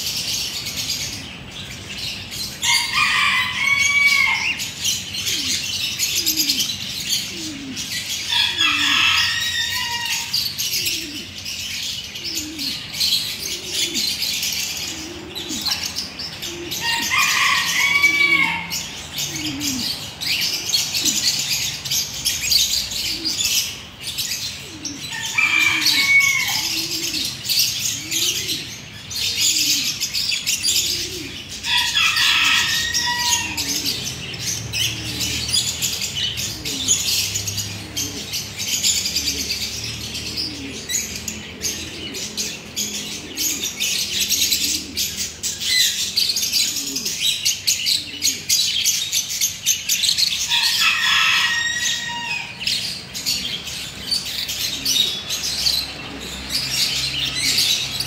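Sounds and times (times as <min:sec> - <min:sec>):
lovebirds twittering: 0:00.0 - 0:58.0.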